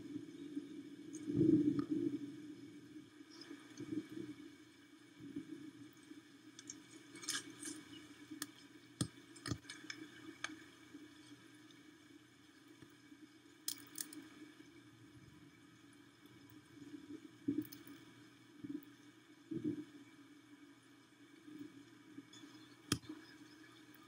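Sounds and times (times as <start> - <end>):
light rain drops ticking: 0.0 - 24.0
low steady hum: 0.0 - 24.0.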